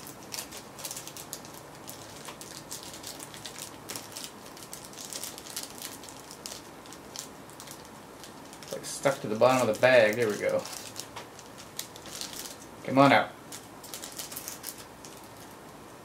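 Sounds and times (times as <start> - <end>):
plastic bag crinkling: 0.0 - 15.7.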